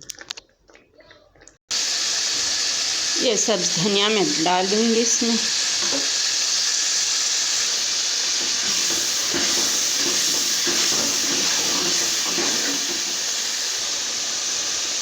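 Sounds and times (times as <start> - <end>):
masala sizzling in oil: 1.7 - 15.0.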